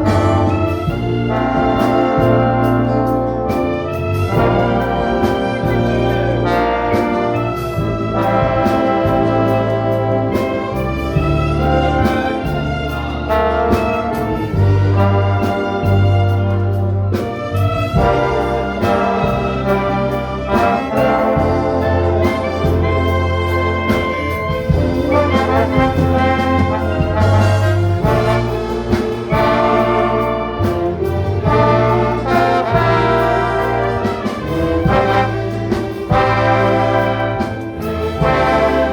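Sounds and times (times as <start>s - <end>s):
orchestra playing: 0.0s - 38.9s
steady percussion beat: 0.0s - 38.9s.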